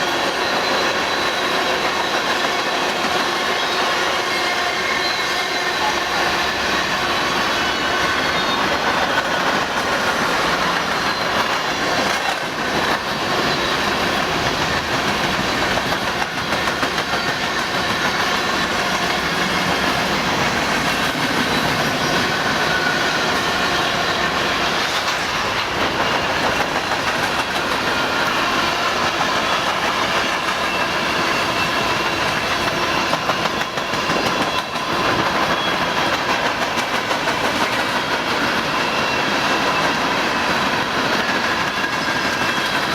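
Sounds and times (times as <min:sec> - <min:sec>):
train wheels clacking on rails: 0:00.0 - 0:42.9.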